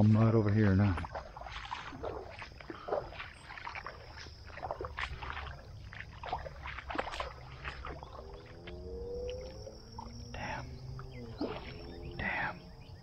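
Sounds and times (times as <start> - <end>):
paddle splashing in water: 0.7 - 12.6.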